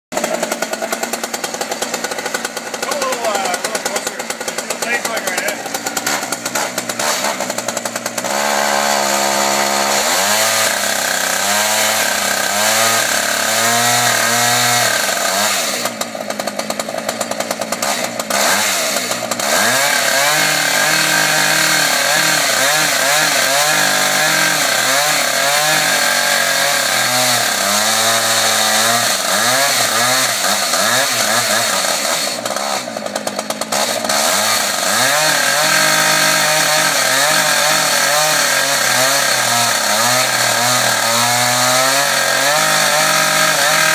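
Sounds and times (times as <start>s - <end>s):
chainsaw cutting concrete: 0.1s - 43.9s.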